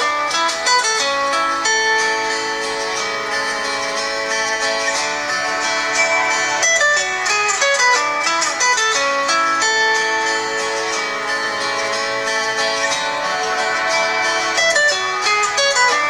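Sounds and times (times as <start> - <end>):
phone ringtone melody: 0.0 - 16.0.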